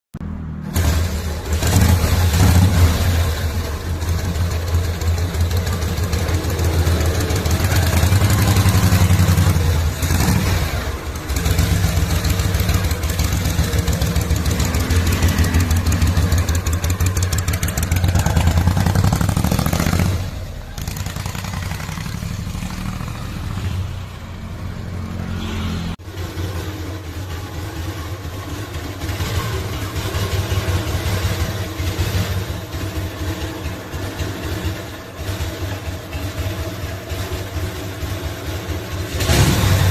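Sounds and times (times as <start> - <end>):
motorcycle engine revving: 0.2 - 39.9.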